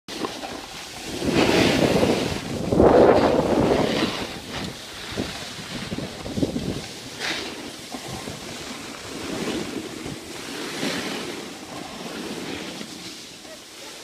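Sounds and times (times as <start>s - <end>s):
skis scraping over snow: 0.1s - 14.0s
wind over microphone: 0.2s - 14.0s.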